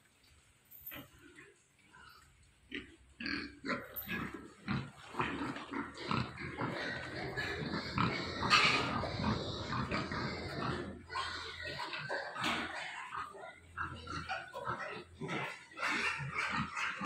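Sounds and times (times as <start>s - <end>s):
pigs grunting: 0.9s - 17.0s.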